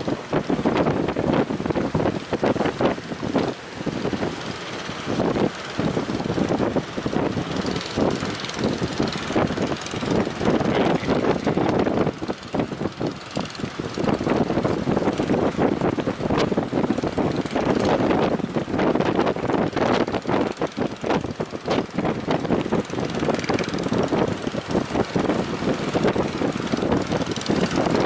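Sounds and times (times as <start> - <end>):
gusty wind buffeting microphone: 0.0 - 28.0.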